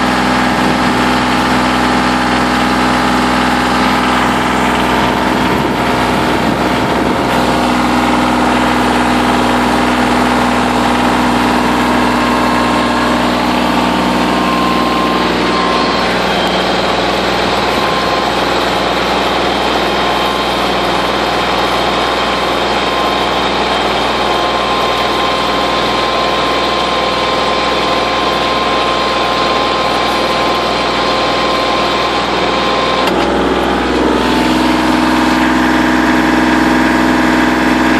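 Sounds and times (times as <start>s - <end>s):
tractor diesel engine under load: 0.0s - 37.9s.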